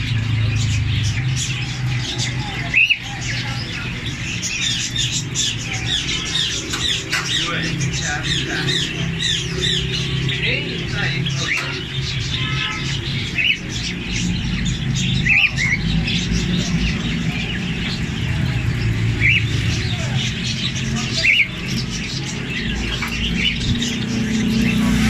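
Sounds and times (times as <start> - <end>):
caged birds chirping: 0.0 - 25.0
sharp loud bird calls: 0.0 - 25.0.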